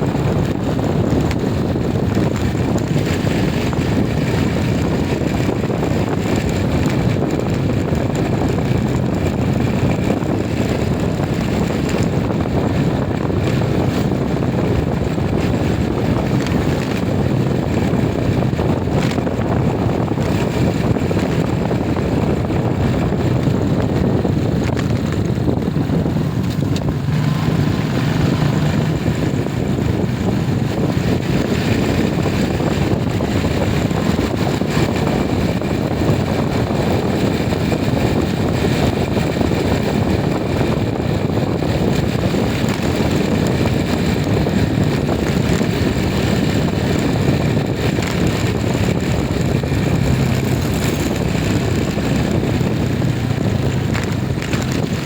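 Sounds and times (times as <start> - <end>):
moving vehicle running noise: 0.0 - 55.0
wind rushing over microphone: 0.0 - 55.0.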